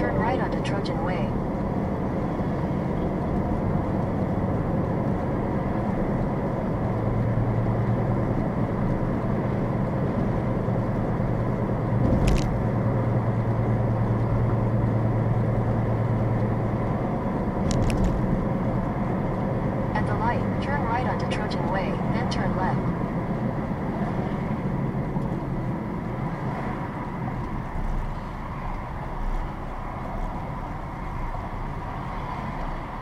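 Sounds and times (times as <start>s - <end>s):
car engine and tyre drone: 0.0s - 33.0s.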